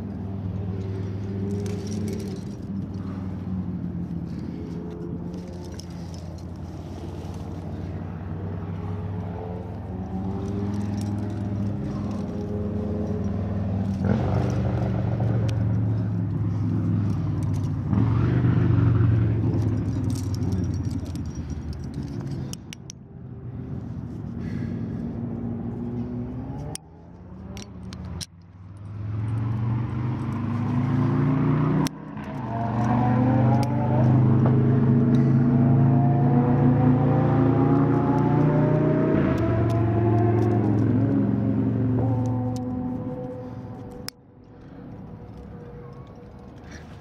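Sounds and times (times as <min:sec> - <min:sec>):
metal climbing gear clicks: 0:00.0 - 0:23.0, 0:25.8 - 0:34.2, 0:37.5 - 0:41.3, 0:42.0 - 0:47.0
motor vehicle engine drone: 0:00.0 - 0:47.0.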